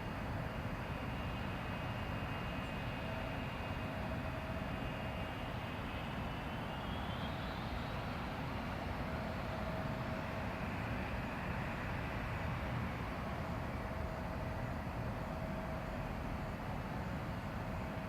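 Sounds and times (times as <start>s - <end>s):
jet engines rumbling with high whine: 0.0s - 18.0s.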